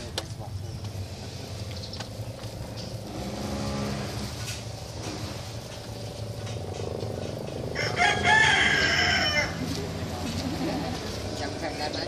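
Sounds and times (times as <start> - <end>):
road traffic hum: 0.0 - 12.0
vehicle engine running: 0.0 - 12.0.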